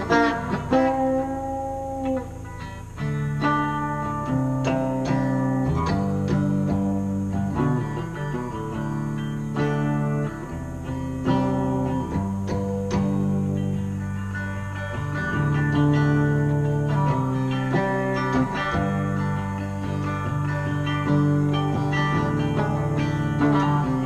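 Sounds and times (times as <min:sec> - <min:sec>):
electric guitar melody: 0:00.0 - 0:24.0.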